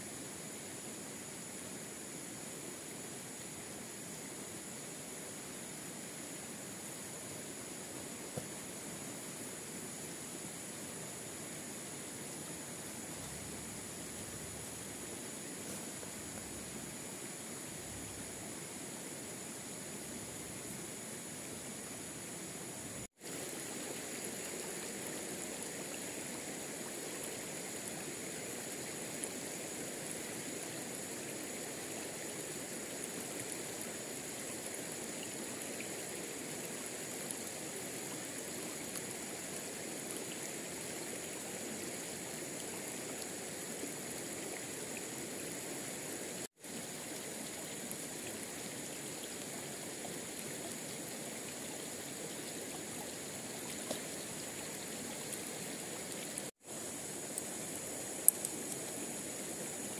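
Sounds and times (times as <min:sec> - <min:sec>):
forest stream rushing: 0:00.0 - 0:59.9.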